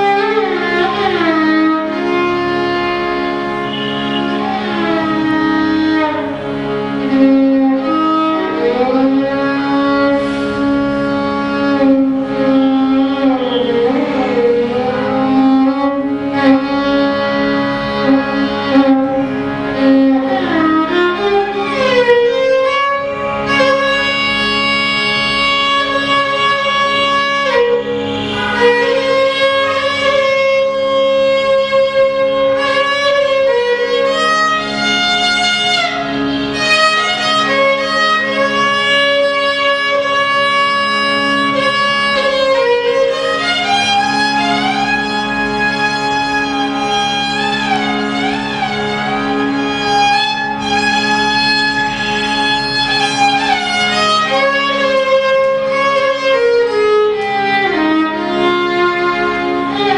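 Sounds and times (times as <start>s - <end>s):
violin slow melody with slides: 0.0s - 59.9s.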